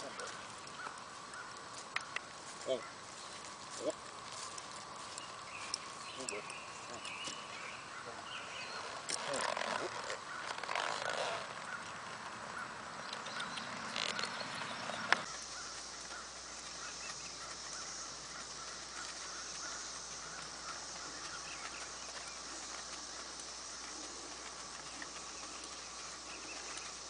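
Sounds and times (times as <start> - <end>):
faint outdoor sounds: 0.0 - 27.0.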